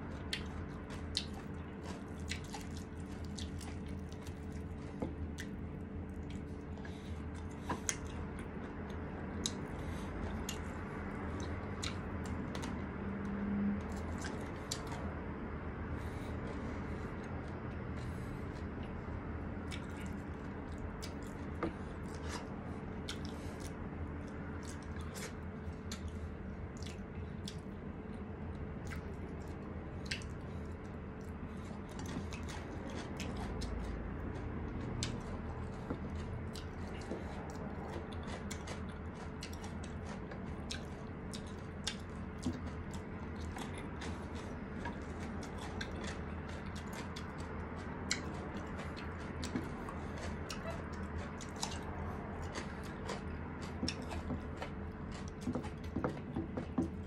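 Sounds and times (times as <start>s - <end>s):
close-up chewing: 0.0s - 57.0s
faint steady hum: 0.0s - 57.0s.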